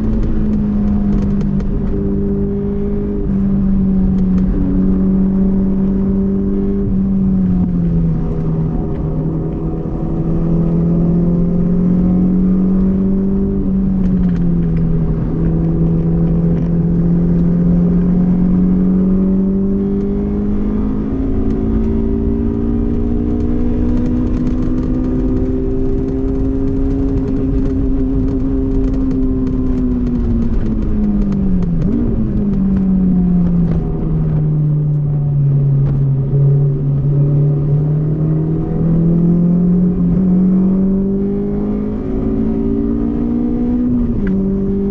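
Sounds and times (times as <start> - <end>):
car engine revving under load: 0.0 - 44.9.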